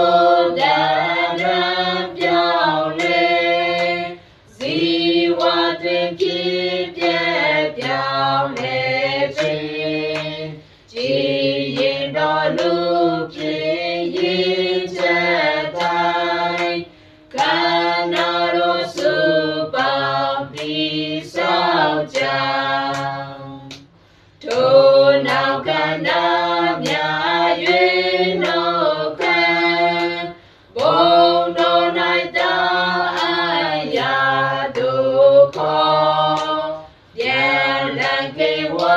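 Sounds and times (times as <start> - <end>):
group singing a hymn unaccompanied: 0.0 - 38.9
hand claps: 0.0 - 38.9.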